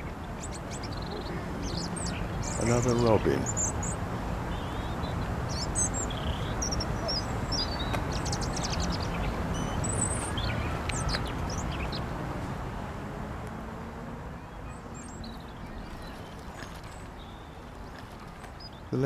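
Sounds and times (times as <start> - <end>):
robin singing: 0.0 - 12.1, 14.3 - 19.0.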